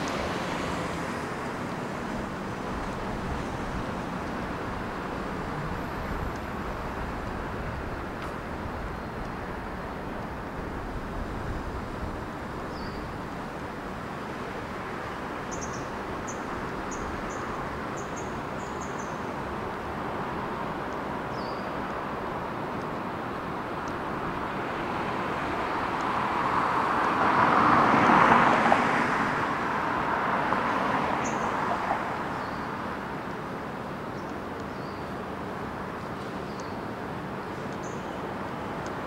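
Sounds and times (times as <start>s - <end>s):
city traffic hum: 0.0s - 39.0s.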